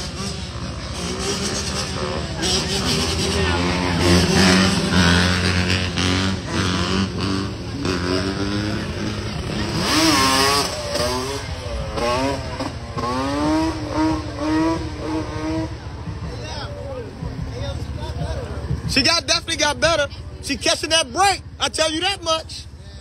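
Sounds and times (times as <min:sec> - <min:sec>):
quad bike engine revving: 0:00.0 - 0:22.8
quad bike engines running: 0:00.0 - 0:23.0.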